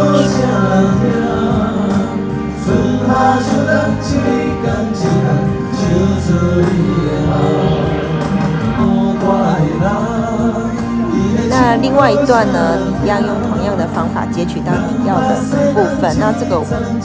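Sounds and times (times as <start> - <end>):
instrumental backing music: 0.0 - 17.0
person singing: 0.0 - 17.0.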